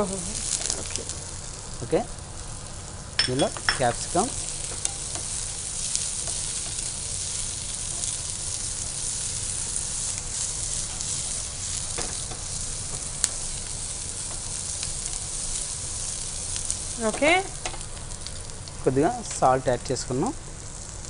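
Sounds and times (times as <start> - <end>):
vegetables sizzling in frying pan: 0.0 - 21.0.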